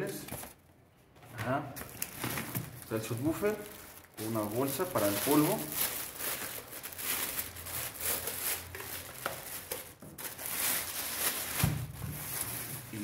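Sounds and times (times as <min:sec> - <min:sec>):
plastic bag crinkling: 0:01.8 - 0:13.0.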